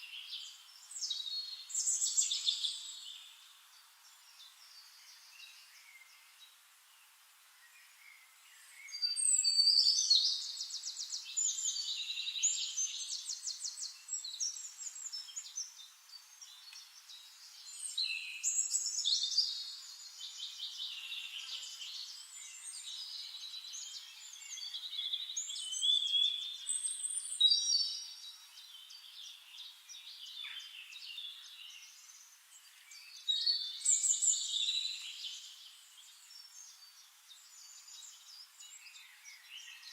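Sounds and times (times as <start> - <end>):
songbird singing with trills: 0.0 - 6.6, 7.6 - 39.9
quiet bird chirps: 0.0 - 39.9.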